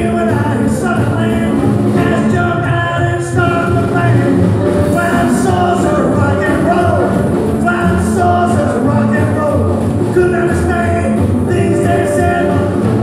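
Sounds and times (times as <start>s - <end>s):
rock and roll band playing: 0.0s - 13.0s
walking bass line: 0.0s - 13.0s.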